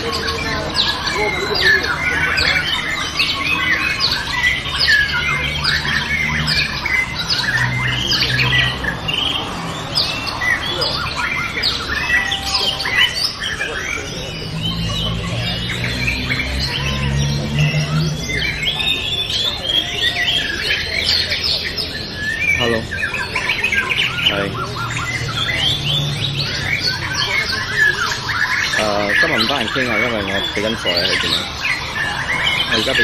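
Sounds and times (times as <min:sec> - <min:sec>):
birds singing whistles and chirps: 0:00.0 - 0:33.0.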